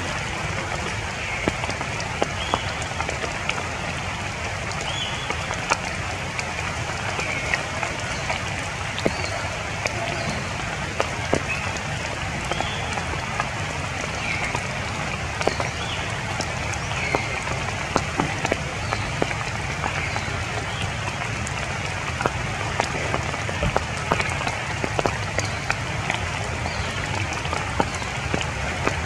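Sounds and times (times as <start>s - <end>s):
rain falling through foliage: 0.0s - 29.0s.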